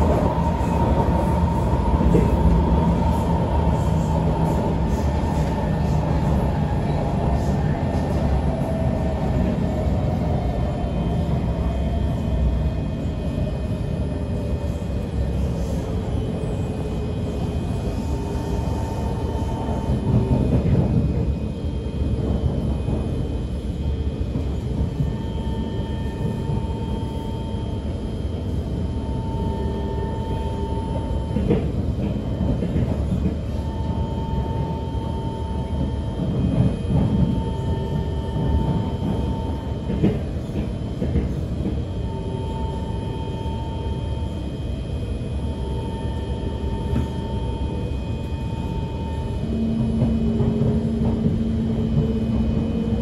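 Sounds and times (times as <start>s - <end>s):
train wheels rumbling on track: 0.0s - 53.0s.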